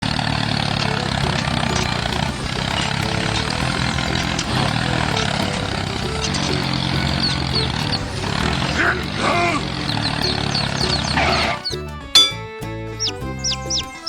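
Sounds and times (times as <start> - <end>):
small engine running: 0.0 - 12.4.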